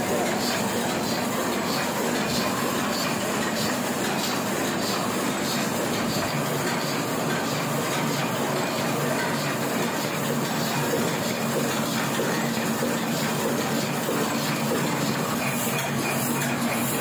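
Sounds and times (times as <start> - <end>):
printing press clattering: 0.0 - 17.0.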